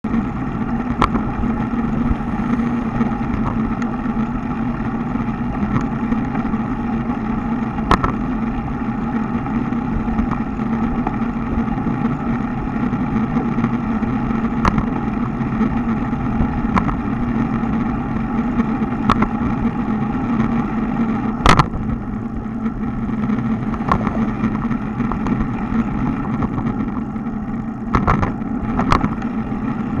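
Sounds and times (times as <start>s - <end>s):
bike tyre and wind hum: 0.0s - 30.0s
wheels knocking over road joints: 0.1s - 30.0s.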